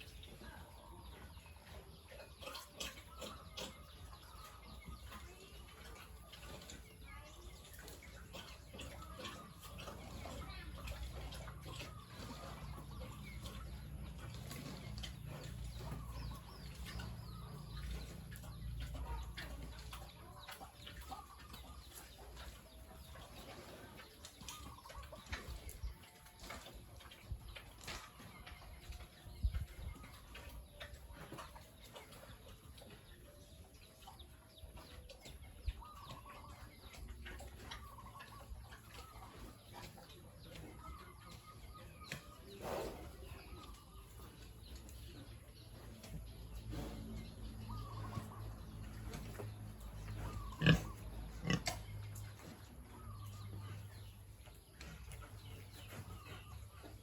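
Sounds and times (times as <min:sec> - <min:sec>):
pigs calling: 0:02.0 - 0:27.2, 0:34.8 - 0:57.0.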